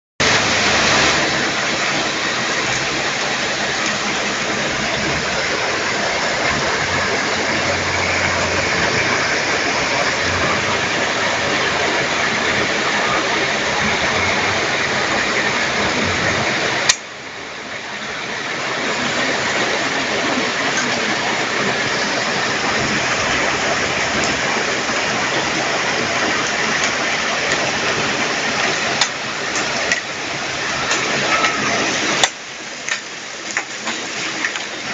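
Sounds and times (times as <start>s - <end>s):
heavy rain with hail: 0.2s - 34.9s.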